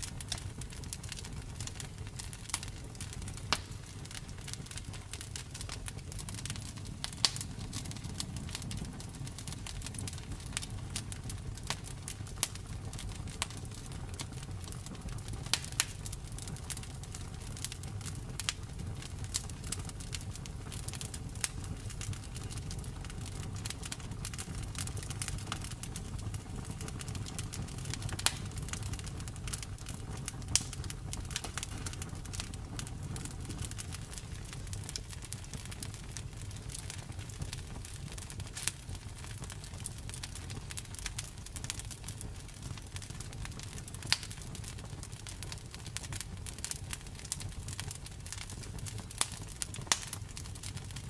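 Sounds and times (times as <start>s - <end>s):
low rumble of flames: 0.0s - 51.0s
wood fire crackling: 0.0s - 51.0s.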